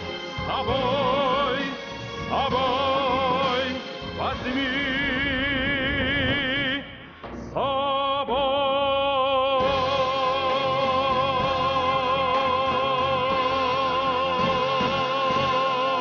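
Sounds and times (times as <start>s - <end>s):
pop ballad backing music: 0.0s - 7.6s, 9.6s - 16.0s
man singing with vibrato: 0.0s - 16.0s.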